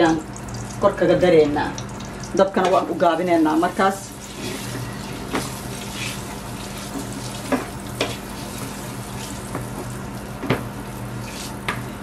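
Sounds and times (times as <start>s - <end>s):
butter sizzling in frying pan: 1.8s - 12.0s.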